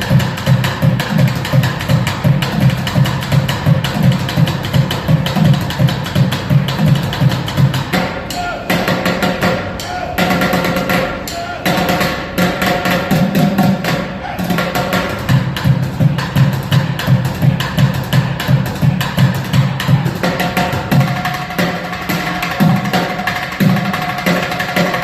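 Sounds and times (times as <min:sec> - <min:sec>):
fast drumming: 0:00.0 - 0:25.0.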